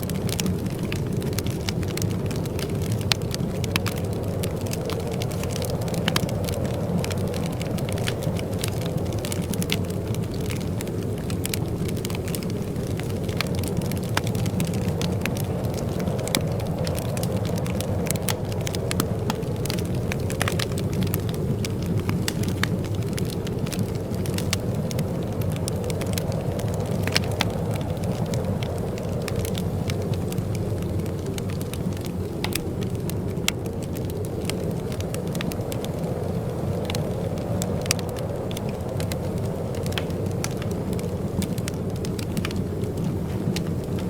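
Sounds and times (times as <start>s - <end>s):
fire crackling and popping: 0.0s - 44.0s
low rumble of flames: 0.0s - 44.0s.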